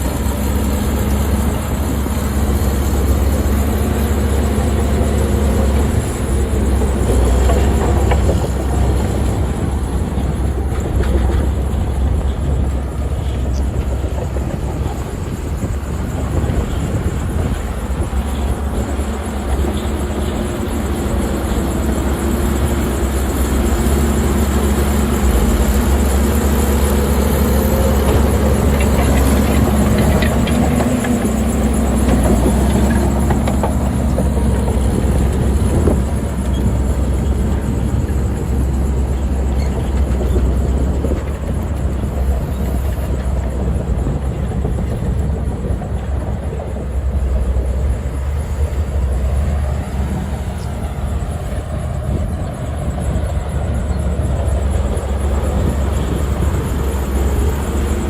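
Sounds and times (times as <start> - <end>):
diesel machinery rumbling: 0.0 - 58.0.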